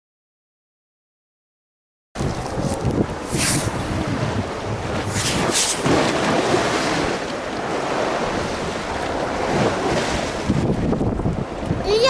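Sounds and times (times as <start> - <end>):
sea surf: 2.2 - 12.0
wind buffeting microphone: 2.2 - 12.0.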